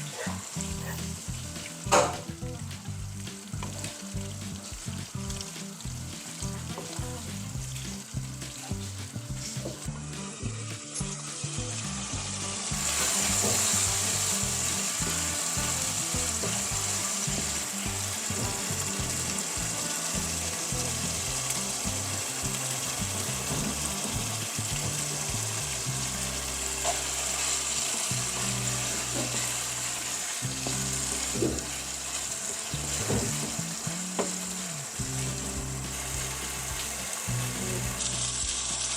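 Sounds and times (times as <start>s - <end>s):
curry sizzling in a pan: 0.0s - 38.9s.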